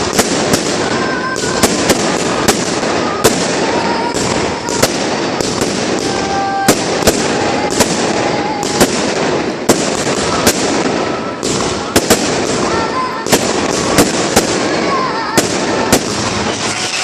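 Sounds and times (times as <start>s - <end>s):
fireworks dense crackle: 0.0s - 17.0s
fireworks sharp bangs: 0.0s - 17.0s.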